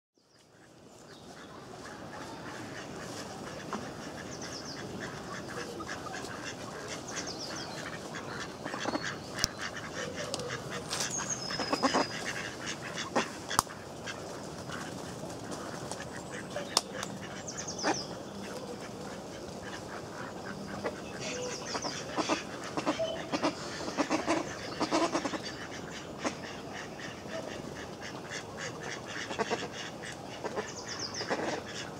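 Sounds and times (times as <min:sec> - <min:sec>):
ducks quacking: 0:00.4 - 0:31.9.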